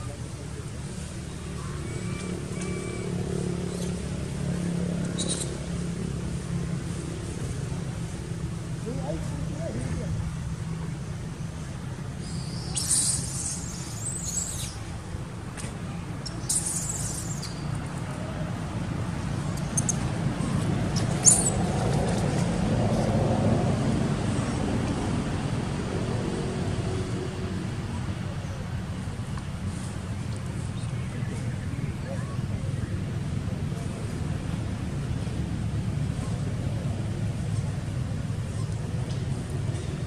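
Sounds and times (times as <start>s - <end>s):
low outdoor rumble: 0.0s - 40.0s.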